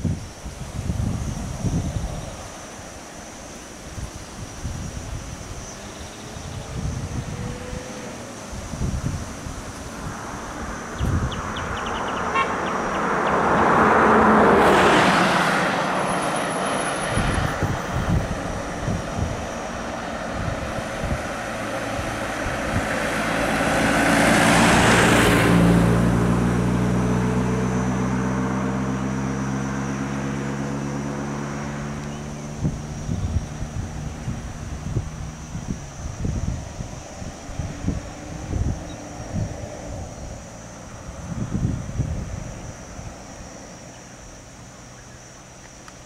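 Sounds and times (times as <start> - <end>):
vehicle engine humming: 0.0 - 46.0
vehicles driving past: 0.0 - 46.0.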